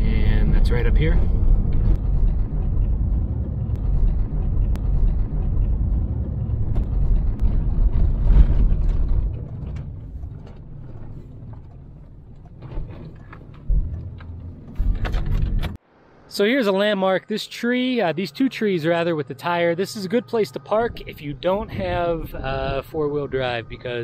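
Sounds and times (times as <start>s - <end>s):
truck engine and tyres rumbling: 0.0s - 16.5s, 17.6s - 24.0s.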